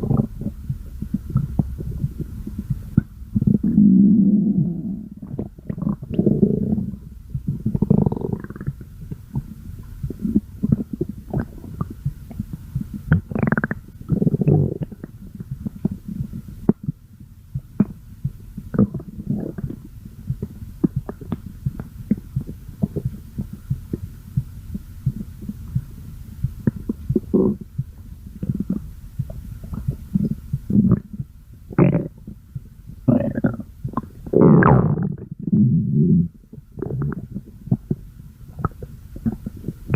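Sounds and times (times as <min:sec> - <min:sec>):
stomach growling and gurgling: 0:00.0 - 0:17.0, 0:18.6 - 0:27.7, 0:28.3 - 0:32.4, 0:33.1 - 0:39.9.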